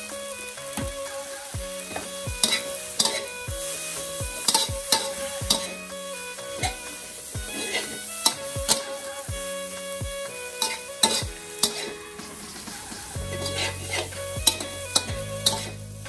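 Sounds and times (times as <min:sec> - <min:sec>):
background music with beat: 0:00.0 - 0:16.0
metal spatula scraping wok: 0:00.0 - 0:16.0
noodles sizzling in wok: 0:00.0 - 0:16.0.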